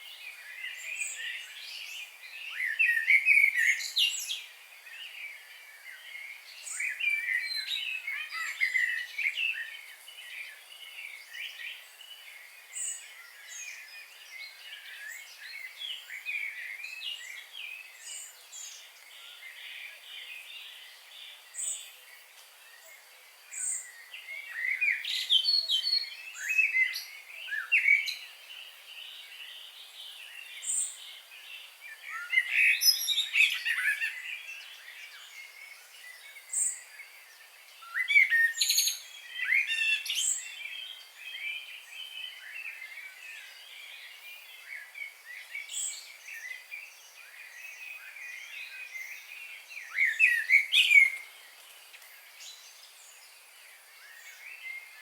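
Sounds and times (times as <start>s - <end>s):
faint background hiss: 0.0s - 55.0s
songbirds chirping and singing: 0.0s - 55.0s.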